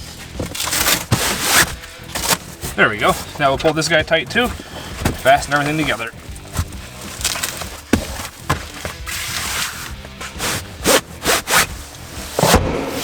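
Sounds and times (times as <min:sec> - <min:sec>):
straps rasping tight: 0:00.0 - 0:12.7
background music: 0:00.0 - 0:13.0.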